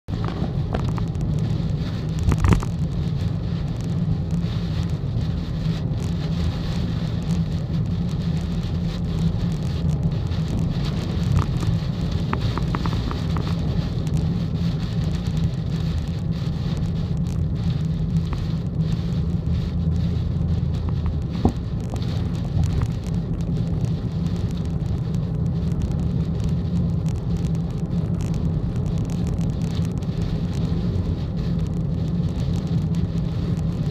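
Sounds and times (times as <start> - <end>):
car engine and tyres rumbling: 0.0 - 33.9
heavy rain hitting car: 0.0 - 33.9.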